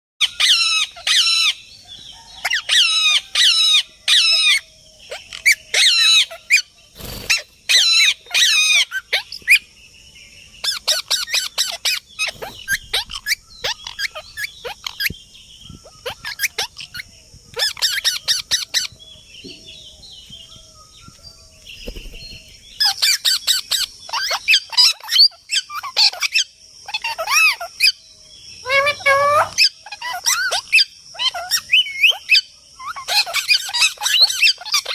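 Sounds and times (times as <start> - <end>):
parrots chattering and squawking: 0.2 - 9.6, 10.6 - 15.2, 15.8 - 18.9, 22.8 - 34.9.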